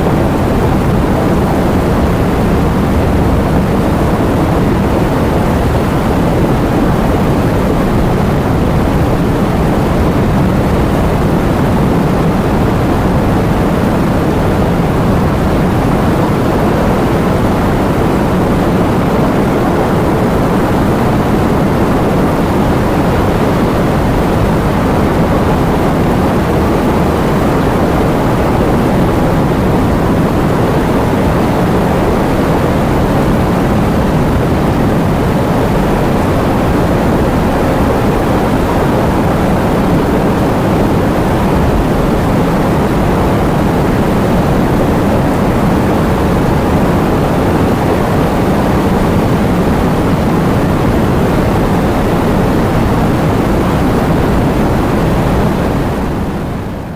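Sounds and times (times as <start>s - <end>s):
heavy rain with wind: 0.0s - 56.9s.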